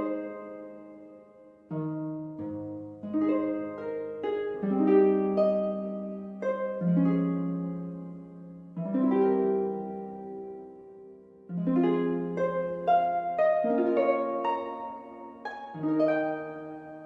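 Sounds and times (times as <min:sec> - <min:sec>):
slow plucked instrumental music: 0:00.0 - 0:17.0.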